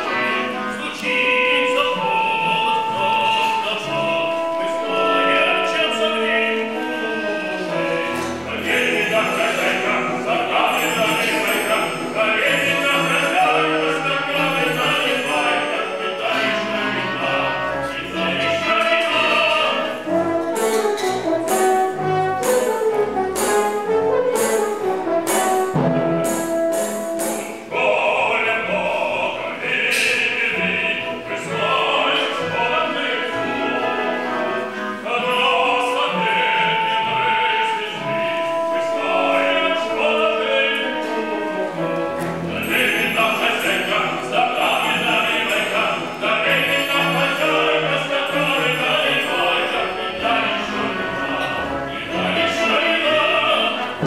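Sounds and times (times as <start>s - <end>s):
operatic singing: 0.0s - 54.0s
orchestra playing: 0.0s - 54.0s.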